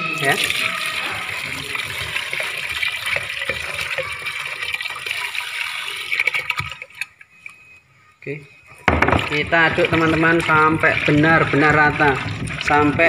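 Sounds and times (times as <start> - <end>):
paint pouring into metal bucket: 0.2 - 7.1, 9.2 - 13.0.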